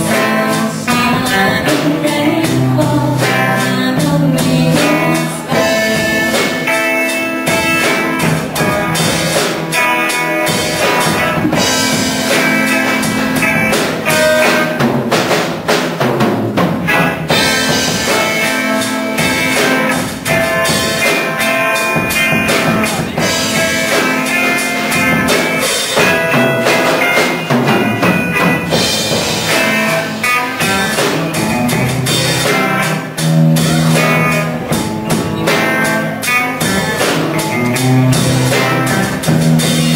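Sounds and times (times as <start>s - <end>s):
band playing guitar and drums: 0.0s - 39.9s.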